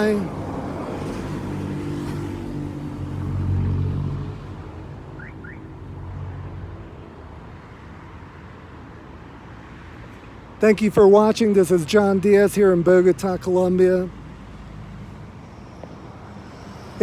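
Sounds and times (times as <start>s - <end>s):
vehicle engine in traffic: 0.0s - 17.0s.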